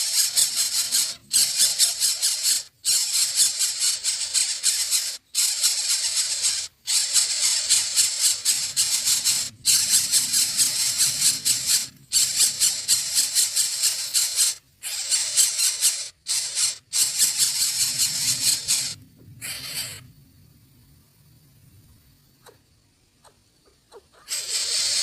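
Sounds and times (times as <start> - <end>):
nestling birds begging: 0.0 - 20.1, 22.4 - 25.0.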